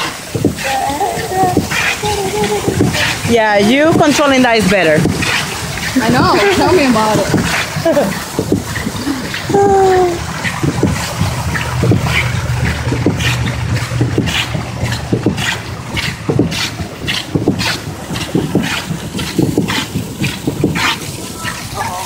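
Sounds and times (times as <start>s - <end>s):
paddle wheel churning water: 0.0s - 22.0s.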